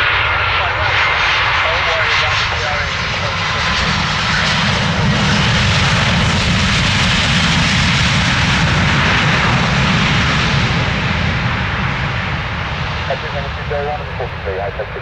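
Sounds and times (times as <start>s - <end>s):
aircraft engines roaring: 0.0s - 15.0s.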